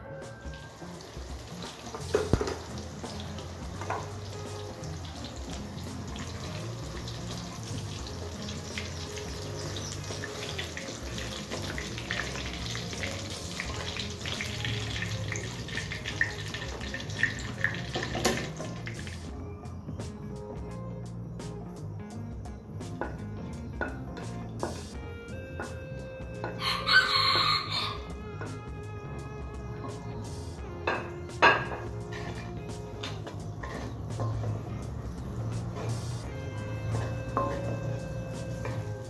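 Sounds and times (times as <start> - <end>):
tofu deep-frying in oil: 0.2 - 20.4, 21.0 - 39.0.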